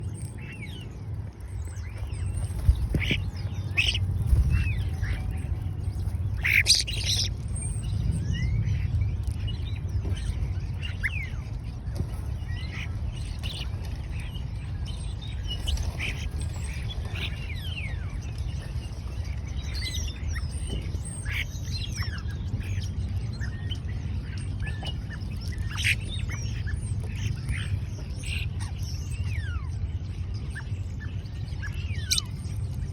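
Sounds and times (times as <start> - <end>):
small birds chirping: 0.0 - 32.9
steady low rumble: 0.0 - 32.9.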